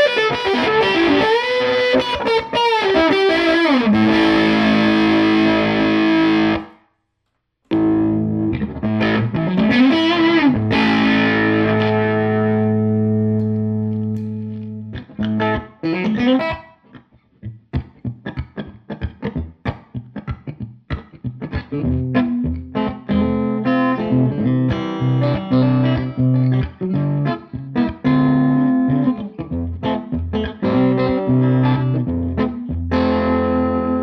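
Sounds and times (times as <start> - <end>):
distorted electric guitar: 0.0 - 6.8, 7.7 - 34.0.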